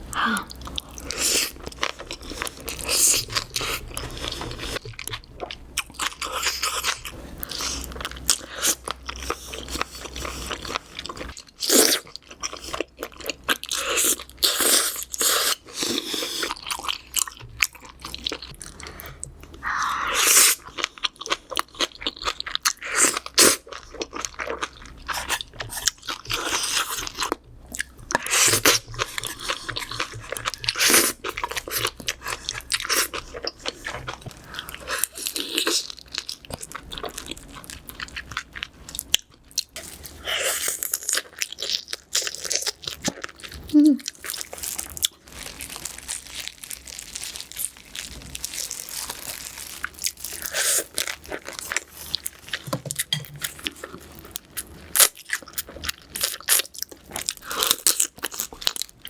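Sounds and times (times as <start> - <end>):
crunching bites and wet chewing: 0.4 - 59.0.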